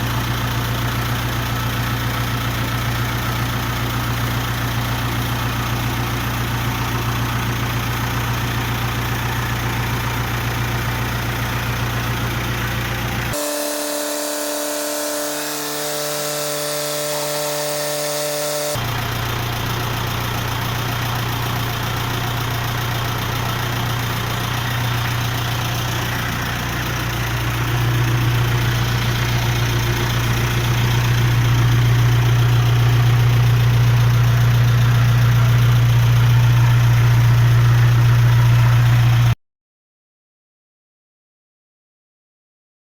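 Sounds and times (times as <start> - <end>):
truck engine idling: 0.0 - 39.4.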